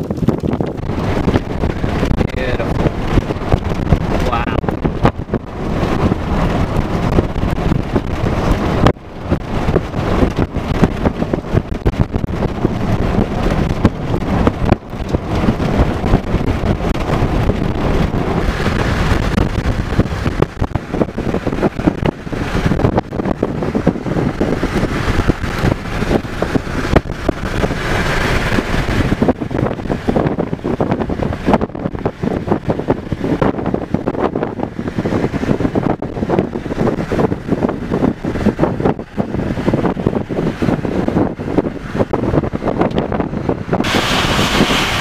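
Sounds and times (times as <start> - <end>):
vehicle road noise: 0.0 - 45.0
wind buffeting microphone: 0.0 - 45.0.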